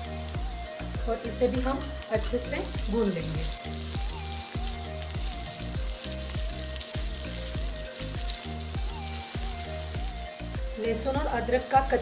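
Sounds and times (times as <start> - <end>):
garlic sizzling in hot oil: 0.0 - 12.0
soft background music: 0.0 - 12.0.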